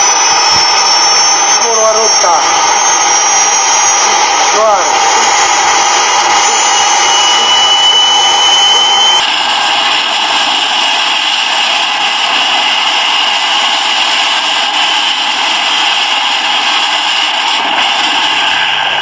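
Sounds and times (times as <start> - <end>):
helicopter rotor rush: 0.0 - 19.0
helicopter turbine whine: 0.0 - 19.0.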